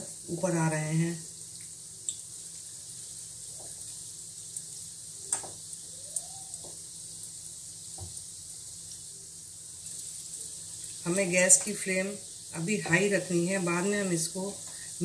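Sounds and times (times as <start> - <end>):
fritters deep-frying in hot oil: 0.0 - 15.0.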